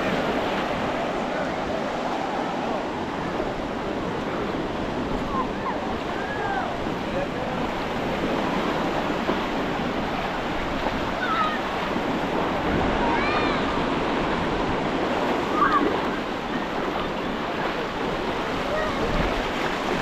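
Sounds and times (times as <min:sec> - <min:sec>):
surf breaking on sandy beach: 0:00.0 - 0:20.0.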